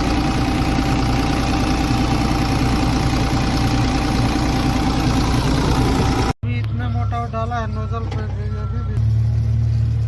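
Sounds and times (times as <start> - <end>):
excavator diesel engine idling: 0.0 - 10.0.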